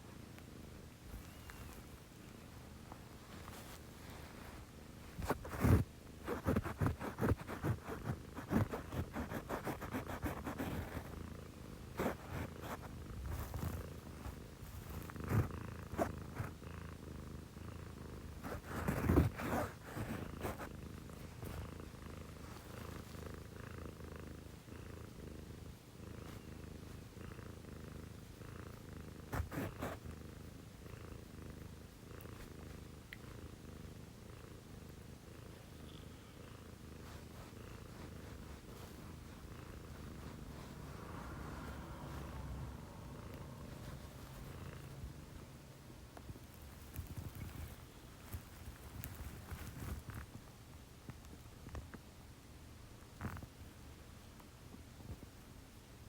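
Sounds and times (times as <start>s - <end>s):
cat purring: 0.0s - 52.1s, 53.0s - 55.5s.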